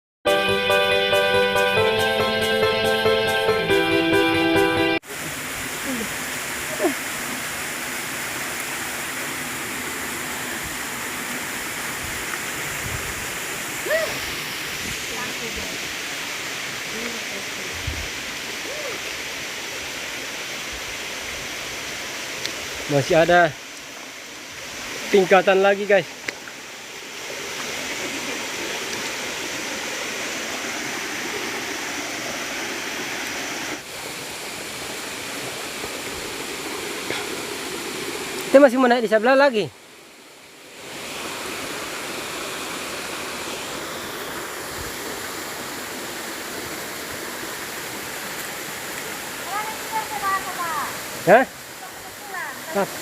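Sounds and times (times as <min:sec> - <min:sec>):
waterfall roaring: 0:05.0 - 0:53.0.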